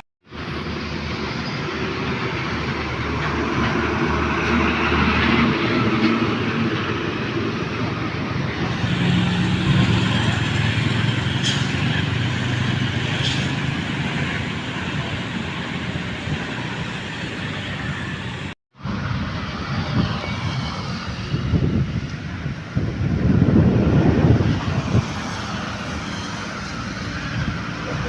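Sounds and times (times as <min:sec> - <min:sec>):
tyres and wind rushing: 0:00.0 - 0:28.0.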